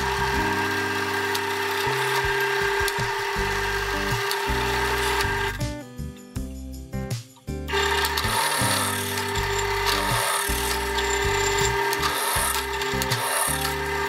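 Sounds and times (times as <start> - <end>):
power tool cutting wood: 0.0 - 5.6, 7.7 - 14.0
background music: 0.0 - 14.0.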